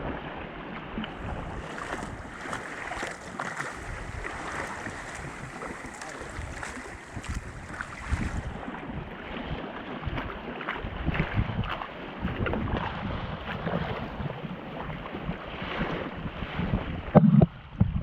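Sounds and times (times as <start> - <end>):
waves washing around kayak: 0.0 - 17.8
short water splashes: 1.0 - 17.2
wind buffeting microphone: 1.0 - 18.0.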